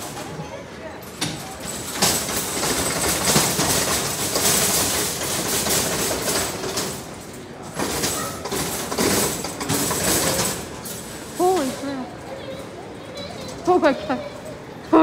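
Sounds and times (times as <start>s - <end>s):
shopping carts rattling: 0.0s - 15.0s.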